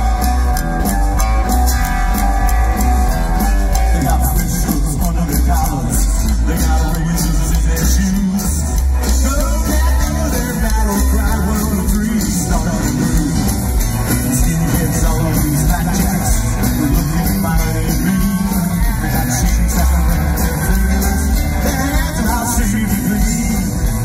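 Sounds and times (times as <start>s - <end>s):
drums: 0.0s - 24.0s
electric guitar: 0.0s - 24.0s
upright double bass: 0.0s - 24.0s.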